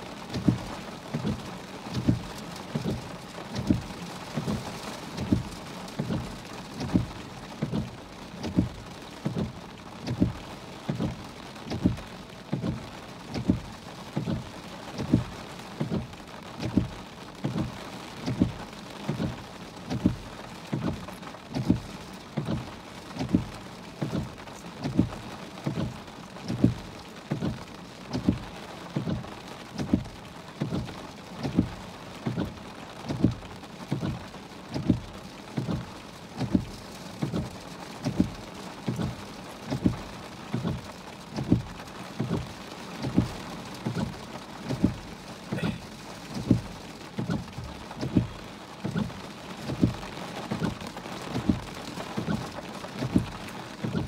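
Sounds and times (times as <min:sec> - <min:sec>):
heavy rain on a car: 0:00.0 - 0:54.0.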